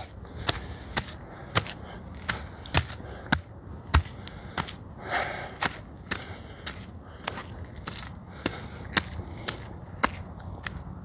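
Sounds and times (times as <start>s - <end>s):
footsteps on rocky dirt trail: 0.0s - 11.0s.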